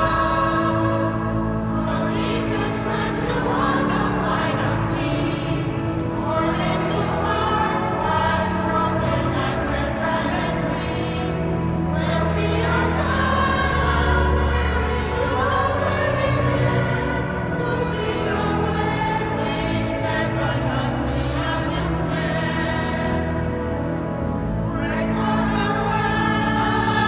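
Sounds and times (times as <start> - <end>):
choir singing sacred music: 0.0 - 27.0.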